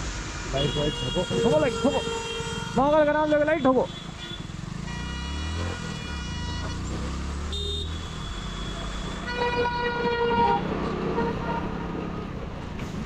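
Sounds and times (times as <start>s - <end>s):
vehicle horns honking: 0.5s - 12.0s.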